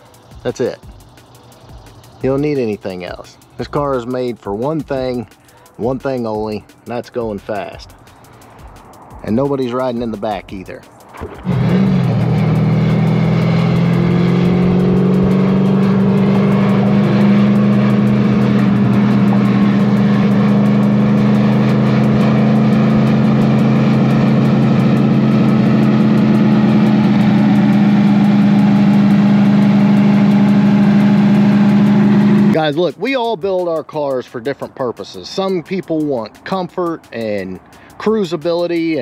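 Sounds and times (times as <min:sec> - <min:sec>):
car engine cruising drone: 0:00.0 - 0:33.2.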